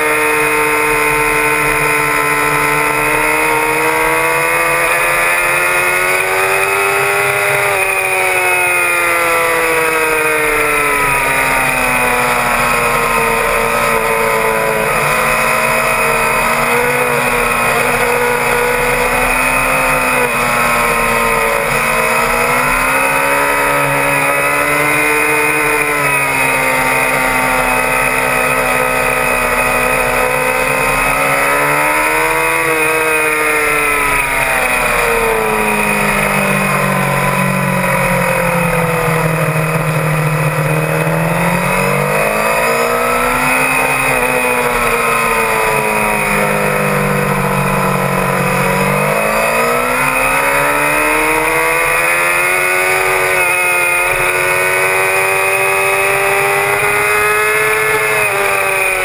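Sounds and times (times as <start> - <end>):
sport bike engine revving: 0.0 - 59.0.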